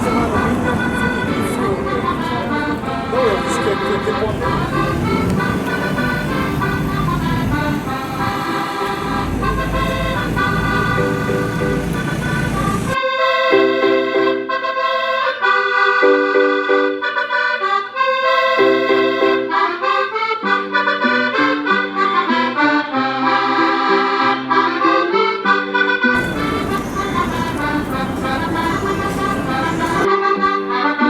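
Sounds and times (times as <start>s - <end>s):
accordion playing a tune: 0.0s - 31.0s
street and traffic noise: 0.0s - 31.0s.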